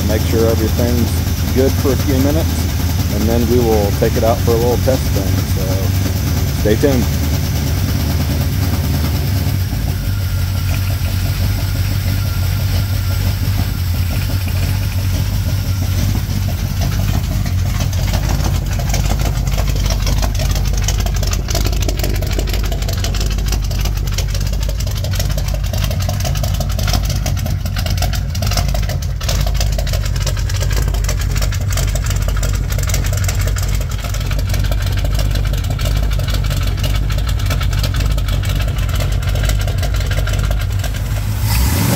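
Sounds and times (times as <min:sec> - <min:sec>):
pickup engine idling: 0:00.0 - 0:41.9.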